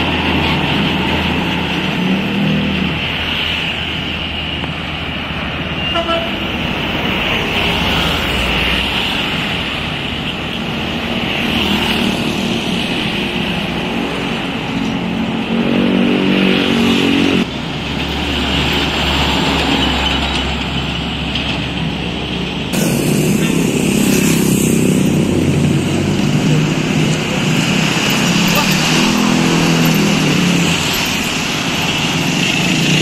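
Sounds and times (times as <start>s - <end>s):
motorcycle engines: 0.0s - 33.0s
truck engines: 0.0s - 33.0s.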